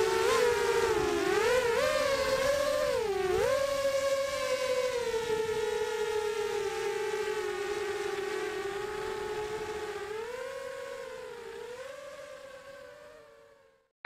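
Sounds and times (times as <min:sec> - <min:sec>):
quadcopter motors whining: 0:00.0 - 0:13.9.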